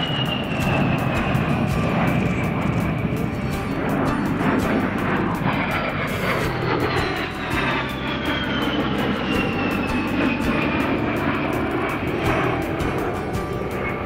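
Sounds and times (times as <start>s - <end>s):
jet engines whining: 0.0s - 14.0s
jet flyby rumble: 0.0s - 14.0s.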